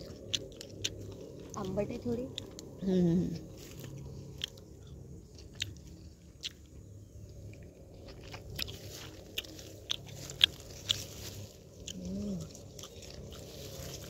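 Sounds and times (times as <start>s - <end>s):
person chewing berries: 0.0s - 14.0s.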